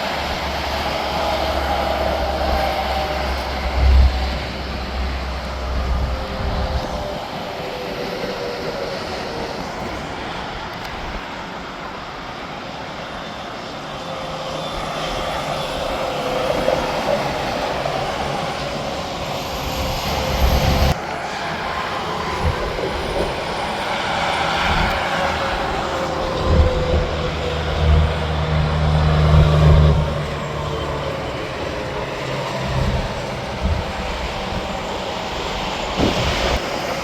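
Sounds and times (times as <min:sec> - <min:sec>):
highway traffic rumble: 0:00.0 - 0:37.0.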